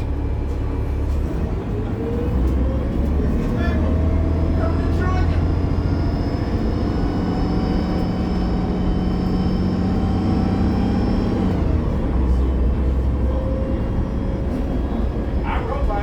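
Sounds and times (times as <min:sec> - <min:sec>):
bus drivetrain rumble and whine: 0:00.0 - 0:16.0.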